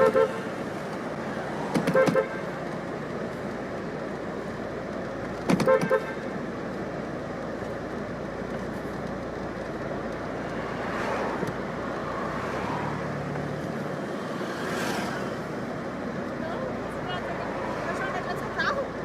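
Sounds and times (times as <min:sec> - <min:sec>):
road traffic rumble: 0:00.0 - 0:19.0
vehicles passing close: 0:00.0 - 0:19.0.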